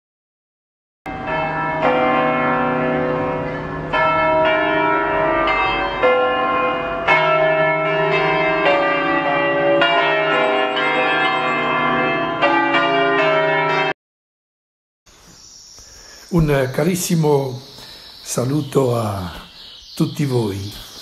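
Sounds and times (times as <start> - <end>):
church bells ringing in a peal: 1.1 - 14.0, 16.3 - 21.0.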